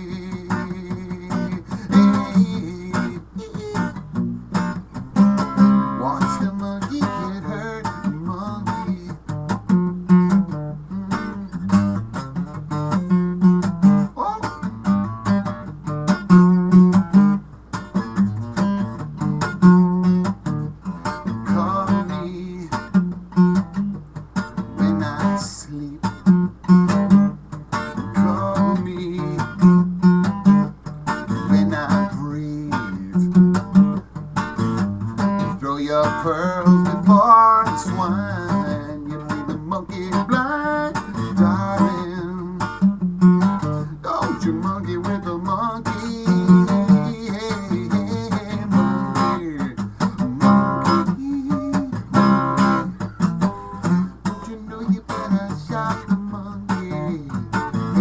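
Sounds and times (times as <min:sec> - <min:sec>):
acoustic guitar strummed: 0:00.0 - 0:58.0.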